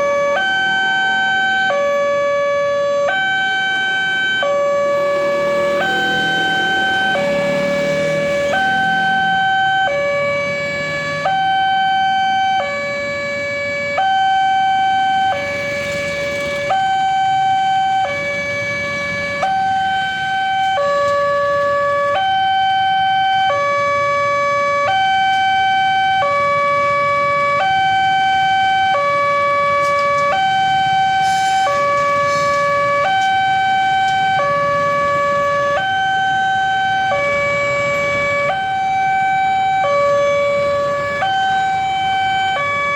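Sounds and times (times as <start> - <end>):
level crossing alarm two-tone: 0.0 - 18.2, 22.1 - 42.9.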